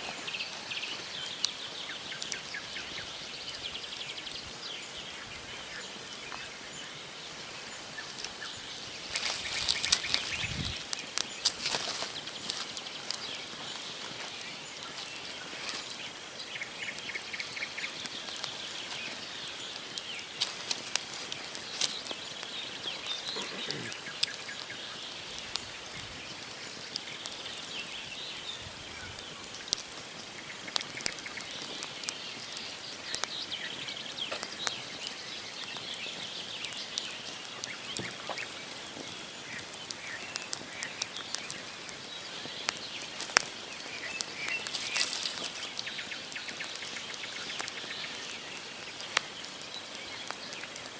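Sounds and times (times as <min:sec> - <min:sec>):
campfire crackling and popping: 0:00.0 - 0:50.9
small birds chirping: 0:00.0 - 0:50.9.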